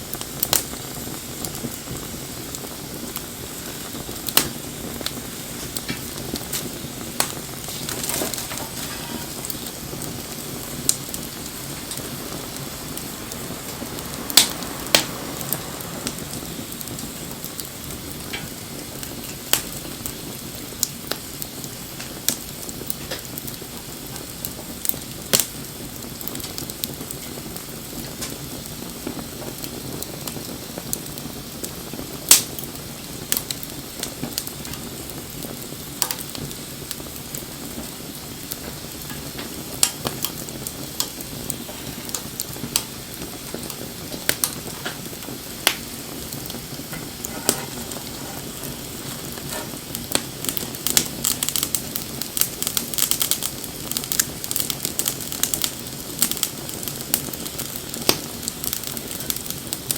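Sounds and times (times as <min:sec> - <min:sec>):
fire crackling and popping: 0:00.0 - 0:59.9
wood fire rumble and hiss: 0:00.0 - 0:59.9.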